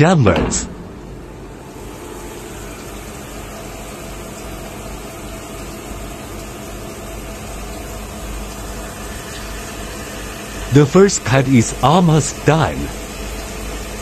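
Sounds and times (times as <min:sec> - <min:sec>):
water pouring and splashing: 0:01.6 - 0:14.0.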